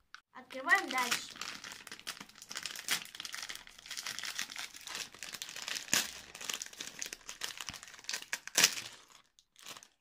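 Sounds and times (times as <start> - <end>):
plastic snack packet crinkling: 0.4 - 10.0.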